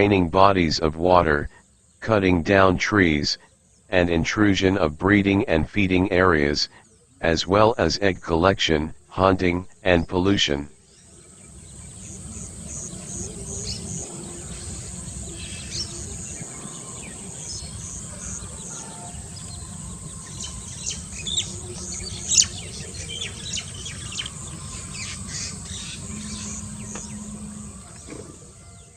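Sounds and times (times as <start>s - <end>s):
birds calling: 0.0s - 28.9s.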